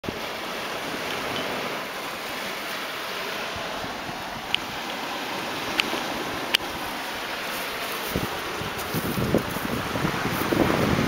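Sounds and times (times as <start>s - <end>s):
sea waves on shore: 0.0s - 11.0s.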